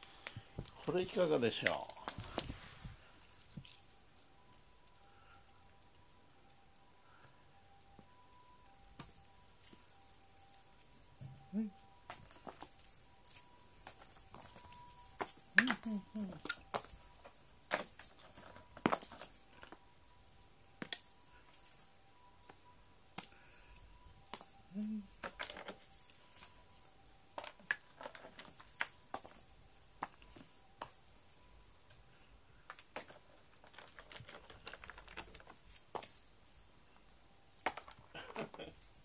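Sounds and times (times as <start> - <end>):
cat toy jingling and clicking: 0.0 - 4.6, 8.9 - 39.0.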